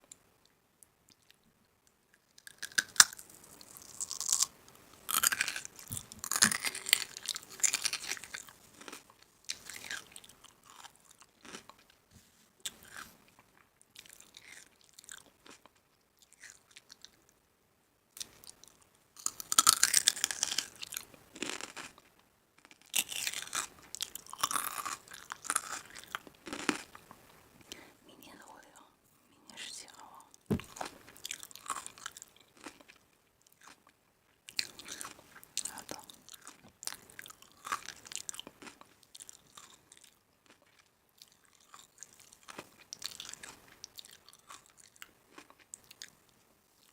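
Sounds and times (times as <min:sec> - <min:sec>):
person chewing crunchy food: 0:02.4 - 0:11.9, 0:12.6 - 0:17.2, 0:18.2 - 0:27.9, 0:30.0 - 0:46.1.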